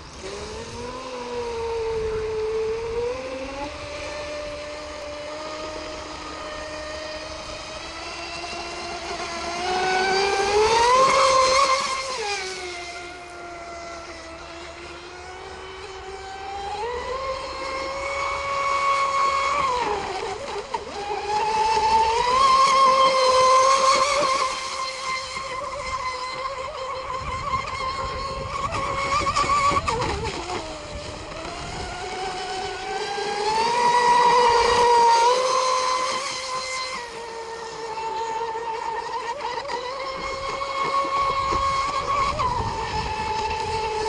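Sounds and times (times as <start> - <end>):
model boat motor running: 0.0 - 44.0.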